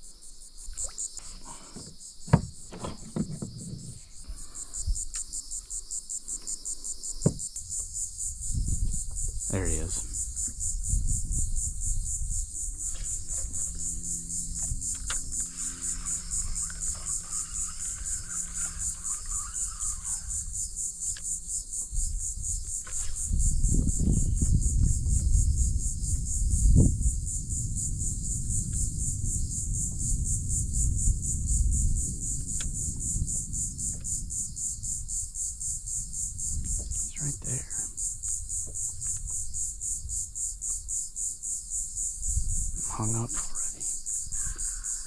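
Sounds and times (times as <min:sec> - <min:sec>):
insects chorus: 0:00.0 - 0:45.0
wind rumble on microphone: 0:07.2 - 0:45.0.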